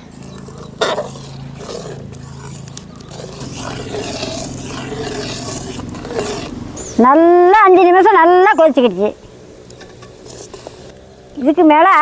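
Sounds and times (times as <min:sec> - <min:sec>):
steady low hum: 0:00.0 - 0:11.4
pot boiling hard: 0:00.0 - 0:12.0.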